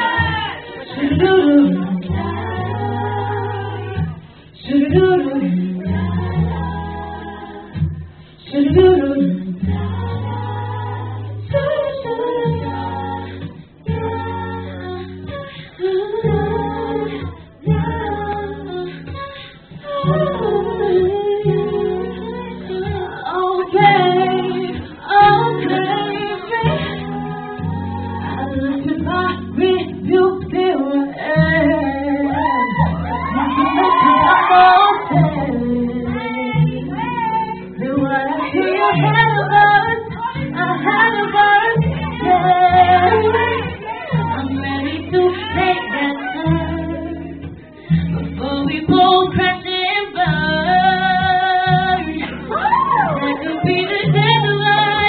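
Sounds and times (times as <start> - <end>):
women singing into microphones: 0.0 - 55.0.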